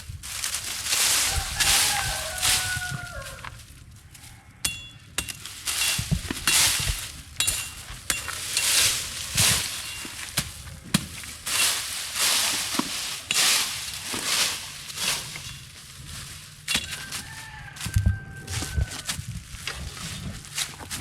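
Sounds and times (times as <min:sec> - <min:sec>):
hand tool swishing through stalks: 0:00.0 - 0:03.6, 0:05.2 - 0:21.0.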